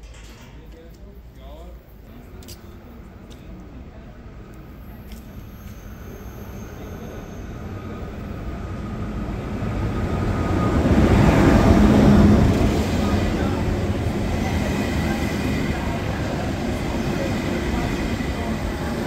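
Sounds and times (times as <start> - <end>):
train rumble approaching: 2.9 - 19.0.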